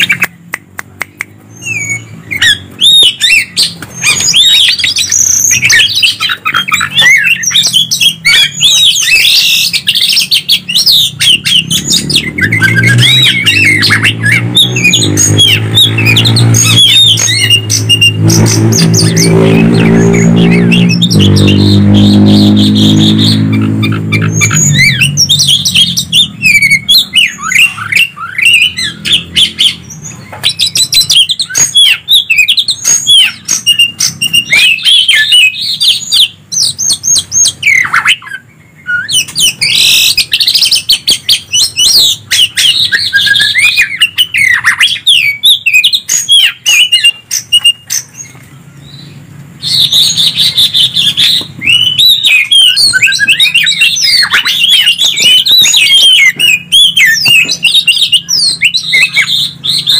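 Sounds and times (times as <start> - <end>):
birds singing whistles and trills: 0.0 - 59.9.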